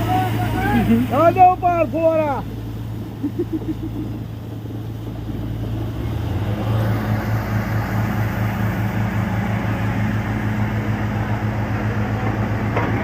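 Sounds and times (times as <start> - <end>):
continuous rushing hiss: 0.0 - 13.0.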